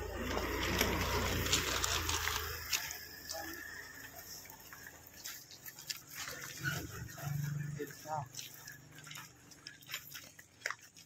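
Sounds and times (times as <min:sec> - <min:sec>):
footsteps on wet gravel: 0:00.0 - 0:11.0.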